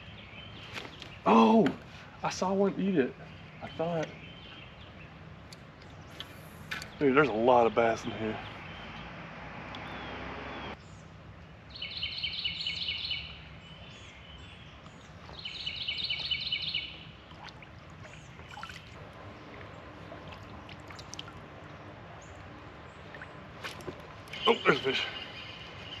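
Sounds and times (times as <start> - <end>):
songbird trills: 2.7 - 9.2, 9.8 - 26.0.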